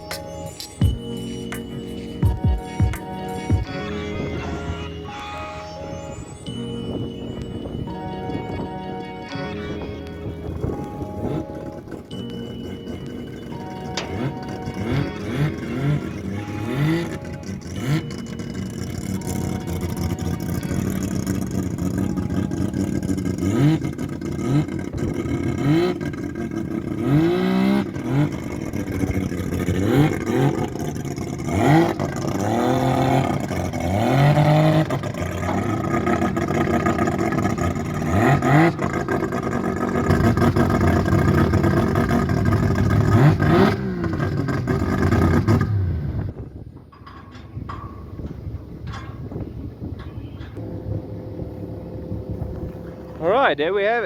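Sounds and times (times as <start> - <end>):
car engine revving: 9.3 - 46.8, 47.4 - 54.0.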